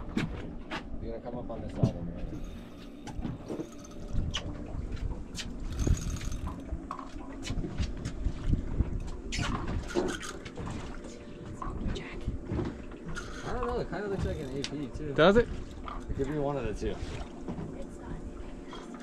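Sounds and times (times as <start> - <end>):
low rumble: 0.0 - 18.9
water lapping against boat hull: 0.0 - 19.0.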